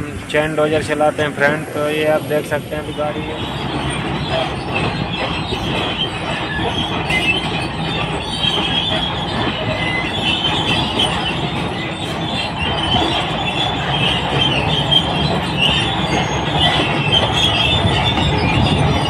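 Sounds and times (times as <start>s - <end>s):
bulldozer diesel engine running: 0.0s - 19.0s
steel tracks squealing and clanking: 0.0s - 19.0s.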